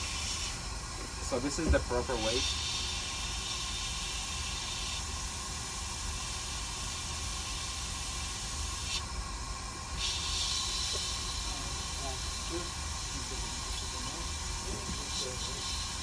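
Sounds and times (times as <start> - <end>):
hiss of blown air: 1.9 - 9.1, 9.7 - 16.0.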